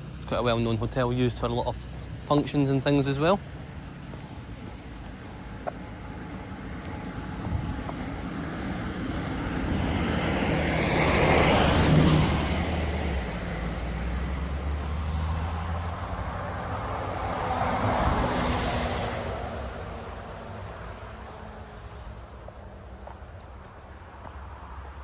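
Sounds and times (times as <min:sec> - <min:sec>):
low engine hum: 0:00.0 - 0:25.0
road vehicles passing by: 0:00.0 - 0:25.0.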